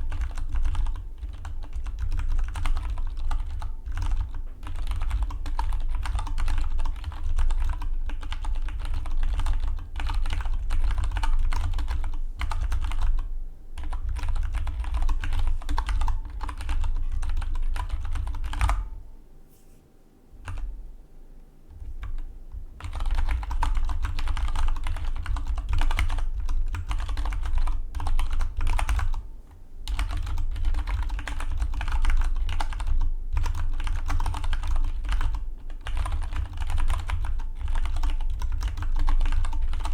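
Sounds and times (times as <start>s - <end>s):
fast typing on mechanical keyboard: 0.0s - 18.9s, 20.4s - 20.7s, 21.7s - 29.2s, 29.8s - 39.9s.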